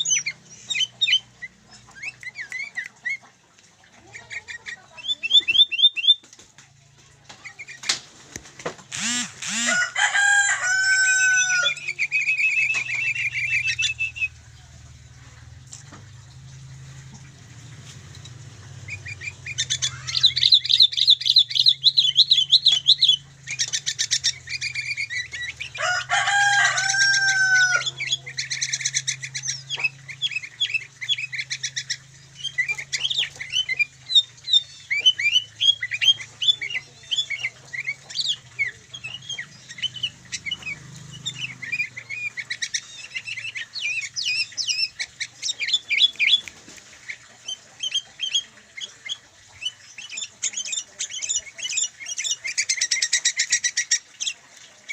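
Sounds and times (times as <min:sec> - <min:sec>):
bulbuls trilling and chirping: 0:00.0 - 0:54.9.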